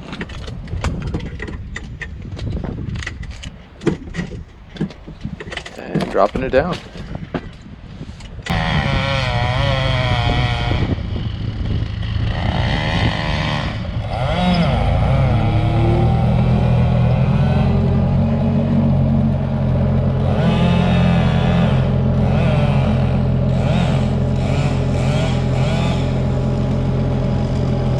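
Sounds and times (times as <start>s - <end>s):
engine running loudly: 0.0s - 7.2s, 8.5s - 27.9s.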